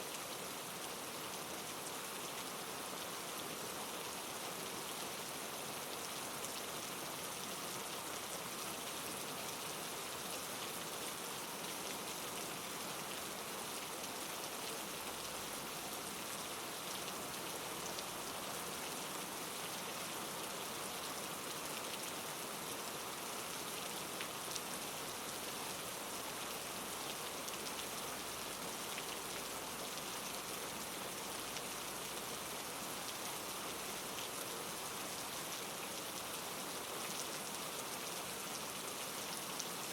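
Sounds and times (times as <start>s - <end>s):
raindrops on a surface: 0.0s - 39.9s.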